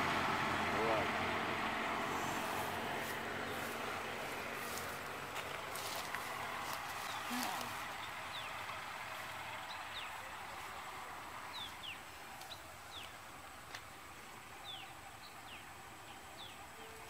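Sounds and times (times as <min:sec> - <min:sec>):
birds calling with sliding notes: 0:00.0 - 0:17.0
outdoor hiss: 0:00.0 - 0:17.0.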